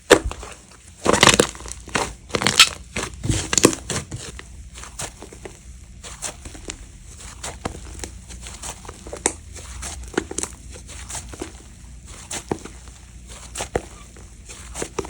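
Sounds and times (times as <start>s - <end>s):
crunchy slime squished by hand: 0.0s - 15.0s.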